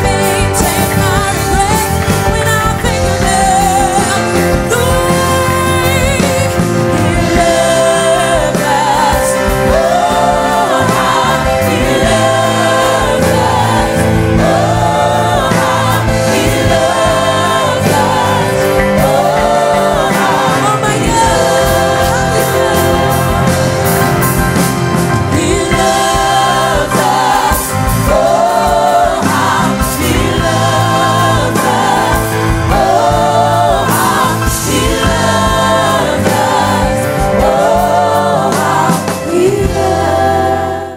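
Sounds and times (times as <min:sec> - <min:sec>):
backing singers: 0:00.0 - 0:40.9
keyboard: 0:00.0 - 0:40.9
woman singing lead: 0:00.0 - 0:40.9.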